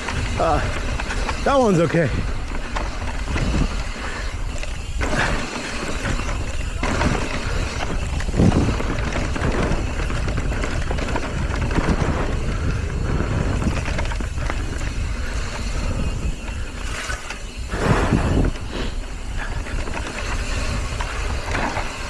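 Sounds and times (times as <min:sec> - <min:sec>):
mountain bike rattling on rocks: 0:00.0 - 0:22.0
wind on microphone: 0:00.0 - 0:22.0.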